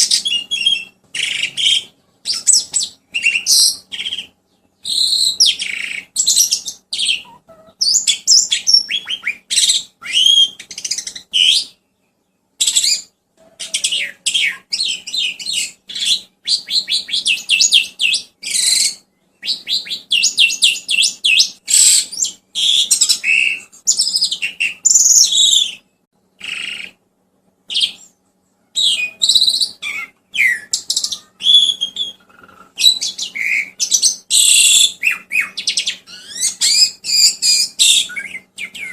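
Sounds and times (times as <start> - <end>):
songbird singing: 0.0 - 27.0, 27.6 - 38.9.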